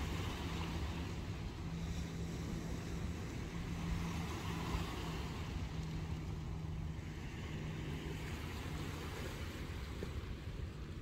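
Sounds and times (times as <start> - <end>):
ferry engine humming: 0.0 - 11.0.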